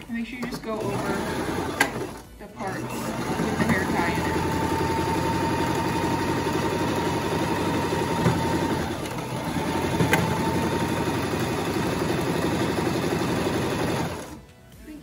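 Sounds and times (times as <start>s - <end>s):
sewing machine running: 0.8s - 14.4s.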